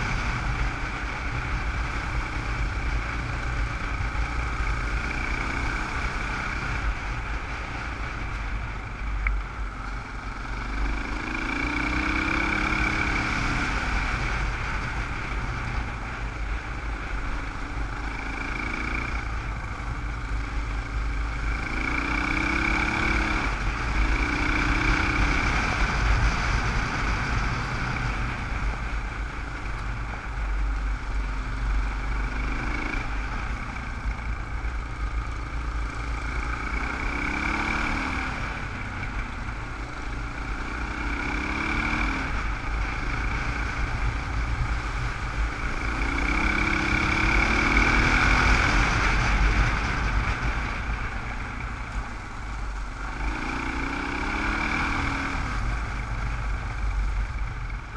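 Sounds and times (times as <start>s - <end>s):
motorcycle engine revving: 0.0s - 57.9s
wind rumbling on camera: 0.0s - 57.9s.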